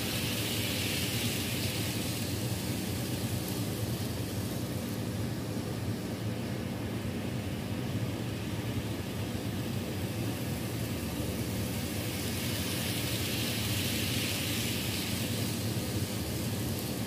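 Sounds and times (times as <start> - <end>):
model train motor and wheels hissing: 0.0 - 17.0.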